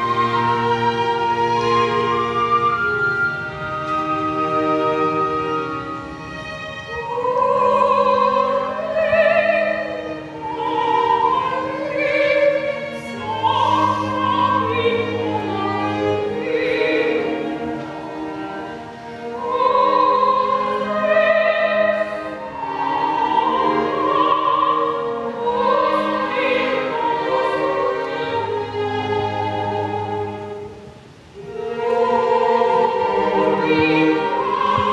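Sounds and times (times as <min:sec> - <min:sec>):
instrumental accompaniment: 0:00.0 - 0:34.9
opera singer singing: 0:00.0 - 0:34.9.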